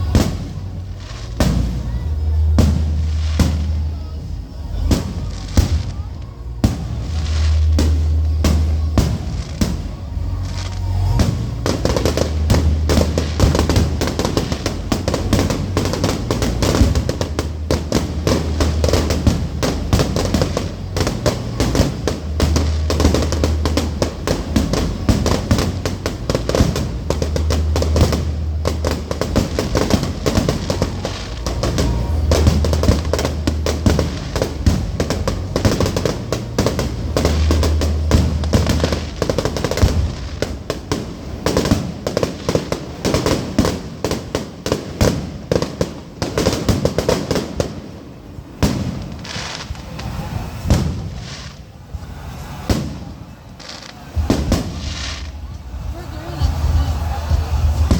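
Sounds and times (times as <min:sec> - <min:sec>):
music with deep bass: 0:00.0 - 0:45.8, 0:55.6 - 0:57.9
fireworks bangs and crackles: 0:00.0 - 0:57.9.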